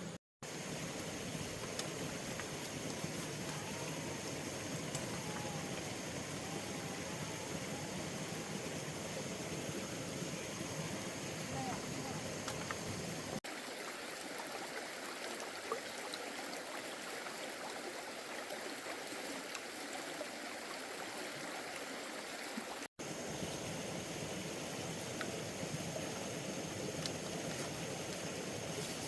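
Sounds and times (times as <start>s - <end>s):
water flowing: 0.0s - 29.0s.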